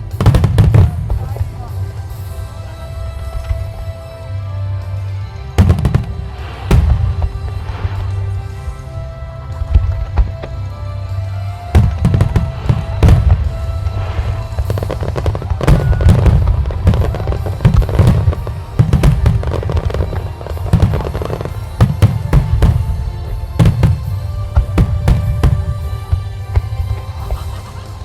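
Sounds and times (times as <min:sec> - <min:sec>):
fireworks booming and cracking: 0:00.0 - 0:04.0, 0:05.5 - 0:28.0
music playing: 0:00.0 - 0:28.0.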